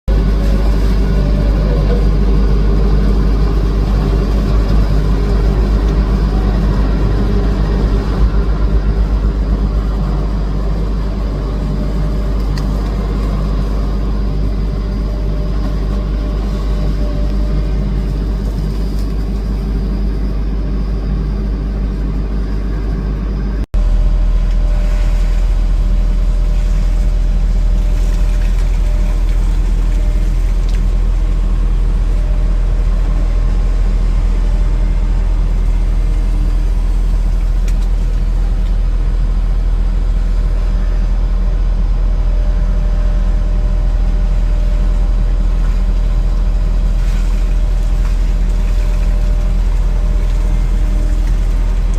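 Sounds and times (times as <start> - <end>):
heavy diesel engines rumbling: 0.1 - 51.9.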